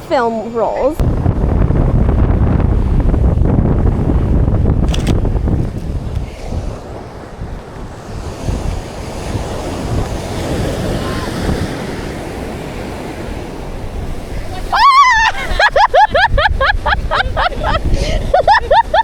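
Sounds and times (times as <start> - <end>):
ocean surf washing onto beach: 0.0 - 19.0
wind buffeting microphone: 0.0 - 19.0.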